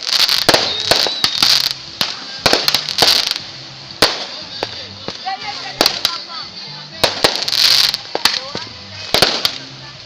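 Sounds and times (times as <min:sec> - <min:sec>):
fireworks cracking and popping: 0:00.0 - 0:10.0
fireworks hissing: 0:00.0 - 0:10.0.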